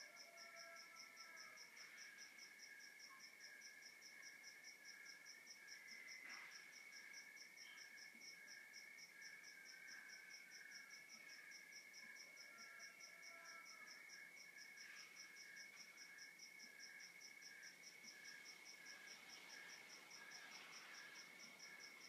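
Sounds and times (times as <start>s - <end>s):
cricket chirping: 0.0s - 22.0s
insects trilling: 0.0s - 22.0s.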